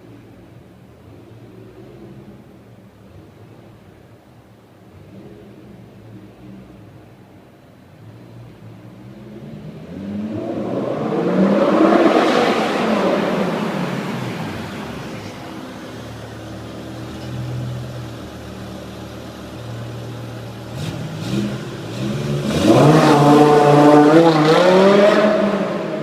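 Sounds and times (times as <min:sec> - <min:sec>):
car engine revving and idling: 0:00.2 - 0:26.0.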